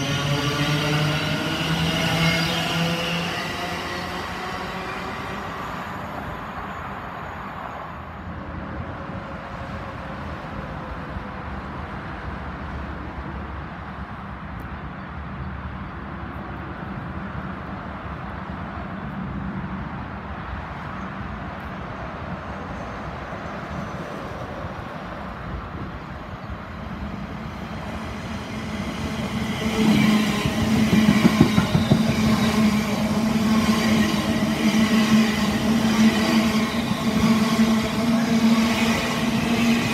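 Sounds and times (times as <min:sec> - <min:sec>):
train rumbling: 0:00.0 - 0:14.2, 0:16.4 - 0:39.9.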